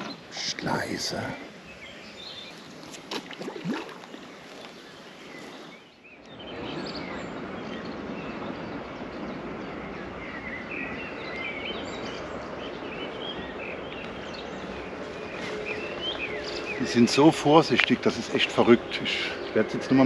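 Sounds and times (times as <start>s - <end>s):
outdoor background noise: 0.0s - 20.0s
small birds chirping: 0.0s - 20.0s.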